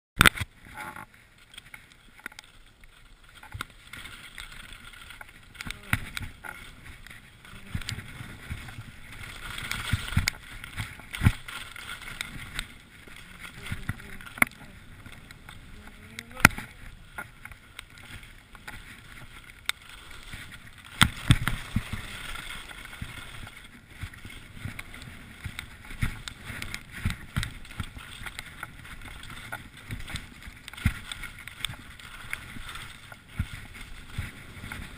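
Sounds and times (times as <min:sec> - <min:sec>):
skis knocking and clattering: 0:00.2 - 0:34.9
skis scraping over snow: 0:00.3 - 0:34.9.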